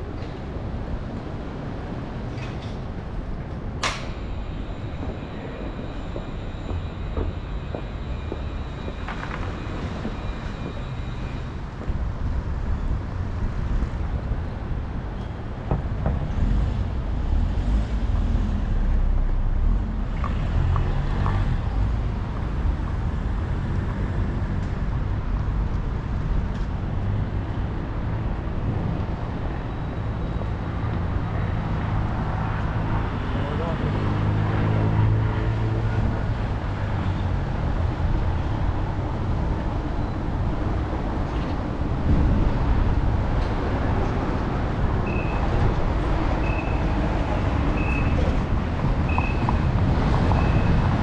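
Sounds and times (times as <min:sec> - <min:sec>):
street traffic noise: 0:00.0 - 0:51.0.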